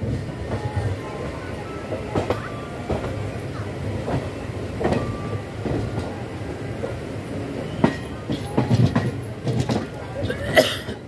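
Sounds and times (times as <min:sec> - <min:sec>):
train coach rumbling on track: 0:00.0 - 0:11.0.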